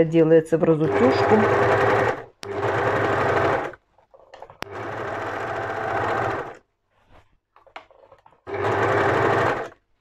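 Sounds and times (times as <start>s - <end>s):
overlocker stitching: 0.8s - 6.6s, 7.2s - 10.0s.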